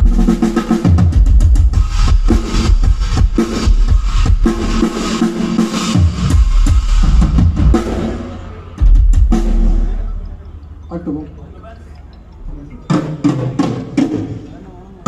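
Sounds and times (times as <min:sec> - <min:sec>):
drum kit played fast: 0:00.0 - 0:10.4, 0:12.9 - 0:14.7.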